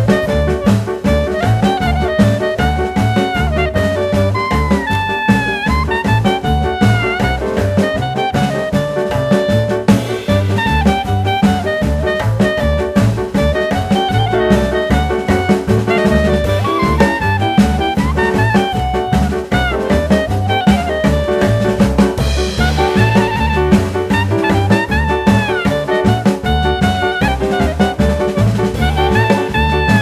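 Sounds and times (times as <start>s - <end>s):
upbeat swing jazz with brass: 0.0s - 30.0s.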